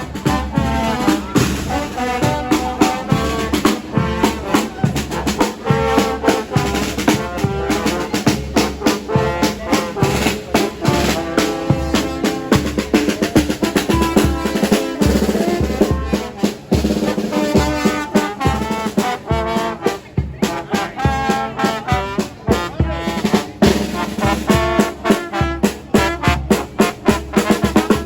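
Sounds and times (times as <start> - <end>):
trumpets and trombones melody: 0.0 - 28.0.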